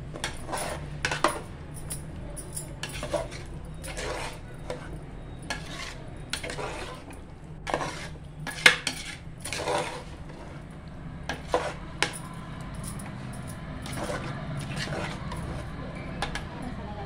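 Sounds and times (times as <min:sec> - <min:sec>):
low steady hum: 0:00.0 - 0:17.0
ladle scraping a pot: 0:00.1 - 0:01.5, 0:02.8 - 0:16.5.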